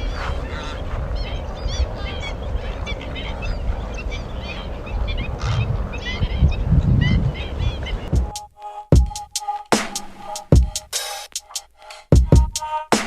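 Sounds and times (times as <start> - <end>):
waterbirds honking: 0.0 - 13.0.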